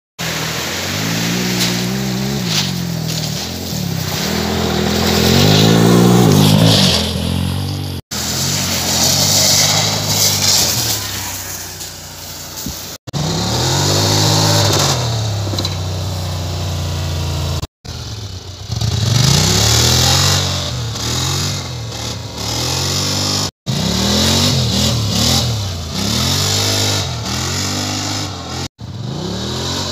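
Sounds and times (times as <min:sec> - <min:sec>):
atv engines revving: 0:00.2 - 0:29.9.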